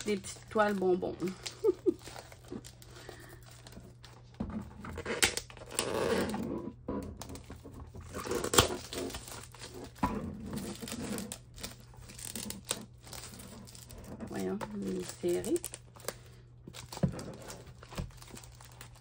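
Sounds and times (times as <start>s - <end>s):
plastic wrap crinkling and tearing: 0.0s - 19.0s.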